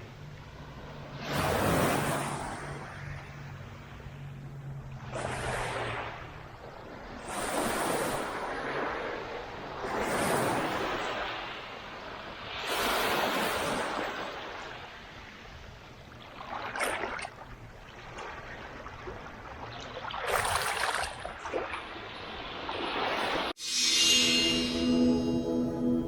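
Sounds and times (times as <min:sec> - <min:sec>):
small waves washing onto beach: 0:00.0 - 0:23.6.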